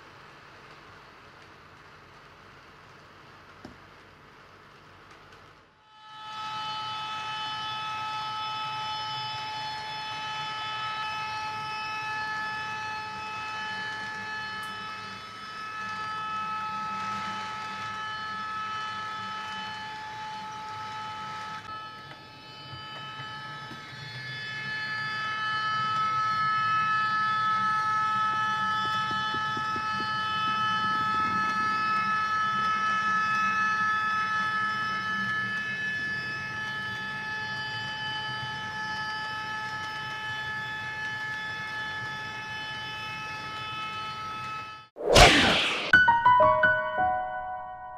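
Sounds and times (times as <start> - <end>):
high-pitched whine: 5.9 - 47.9.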